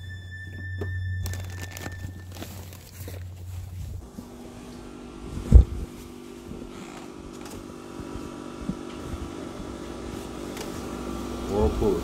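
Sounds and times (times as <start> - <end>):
refrigerator humming: 0.0 - 12.0.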